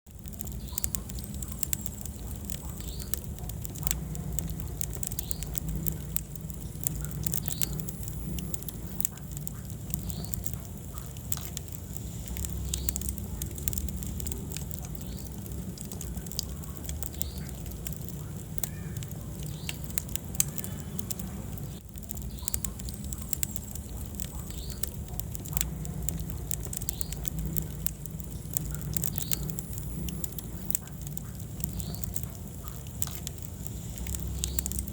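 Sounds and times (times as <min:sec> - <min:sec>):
fire crackling and popping: 0:00.0 - 0:34.9
fire flames rumbling: 0:00.0 - 0:34.9.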